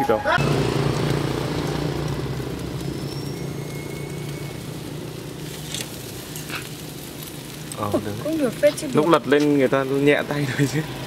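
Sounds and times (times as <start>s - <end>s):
engine idling hum: 0.4s - 11.0s.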